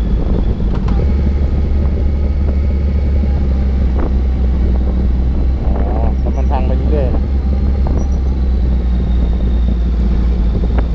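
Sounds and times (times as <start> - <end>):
motorcycle engine rumbling: 0.0 - 10.9.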